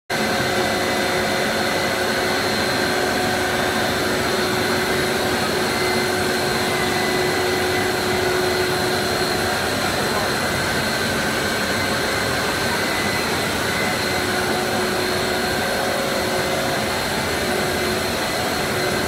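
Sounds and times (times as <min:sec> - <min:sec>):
whining motors and fans: 0:00.1 - 0:19.0.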